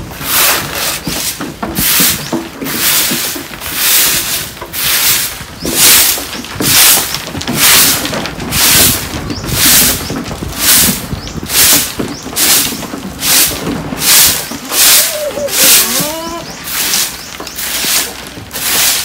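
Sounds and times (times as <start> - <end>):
broom sweeping wooden floor: 0.0 - 19.0.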